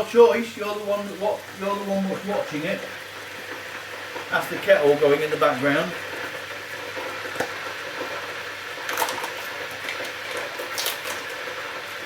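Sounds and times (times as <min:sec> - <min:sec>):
kettle hissing: 0:00.0 - 0:12.0.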